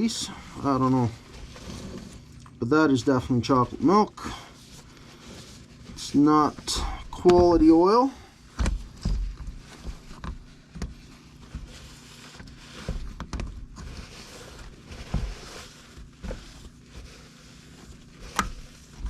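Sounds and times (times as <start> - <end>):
rustling: 0.0 - 2.6, 3.2 - 19.0.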